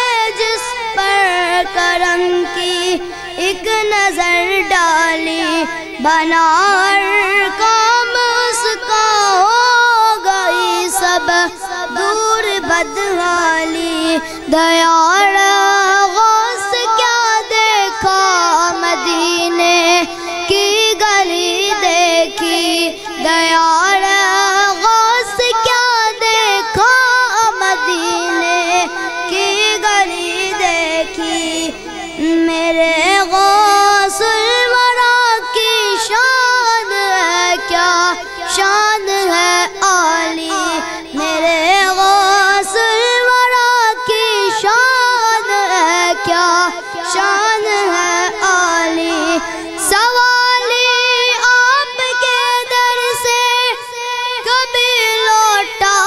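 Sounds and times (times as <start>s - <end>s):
boy singing: 0.0s - 56.0s.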